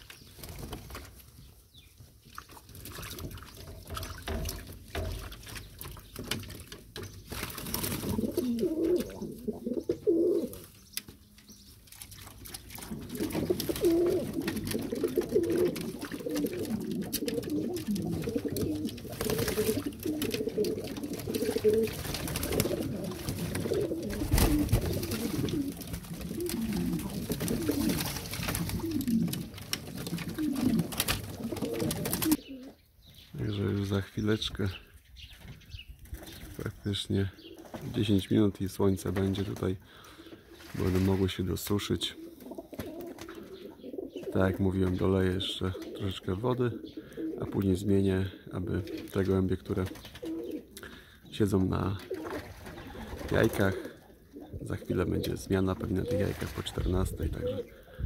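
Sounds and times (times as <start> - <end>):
pigeons cooing: 2.6 - 11.0, 12.1 - 32.9, 35.7 - 37.9, 39.9 - 40.8, 42.0 - 58.0.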